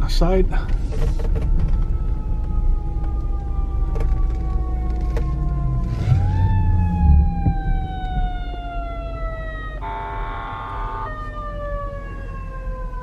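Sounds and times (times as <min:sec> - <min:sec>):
low traffic rumble: 0:00.0 - 0:13.0
emergency siren wailing: 0:00.8 - 0:13.0.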